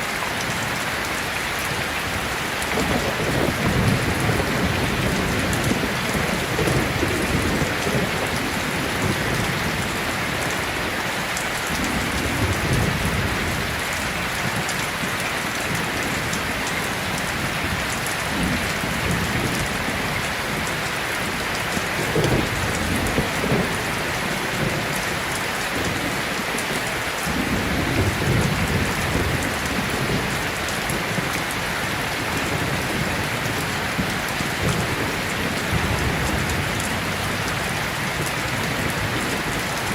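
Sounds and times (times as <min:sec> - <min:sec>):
heavy rain falling: 0:00.0 - 0:39.9
thunder rumbling: 0:01.7 - 0:39.9.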